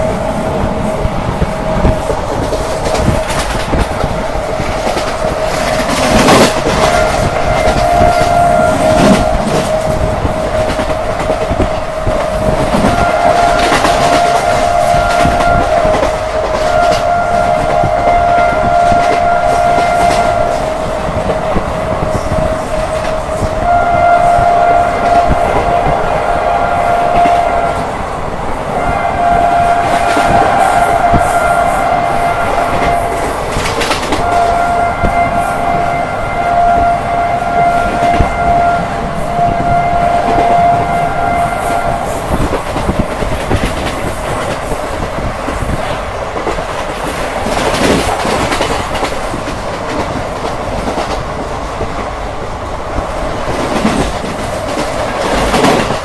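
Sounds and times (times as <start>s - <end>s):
train horn blasts: 0.0s - 52.0s
train wheels clickety-clack: 0.0s - 56.0s.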